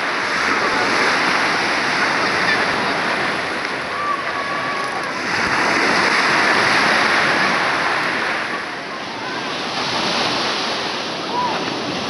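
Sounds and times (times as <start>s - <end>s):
waves washing on pebble beach: 0.0s - 12.0s
faint voices: 0.1s - 12.0s.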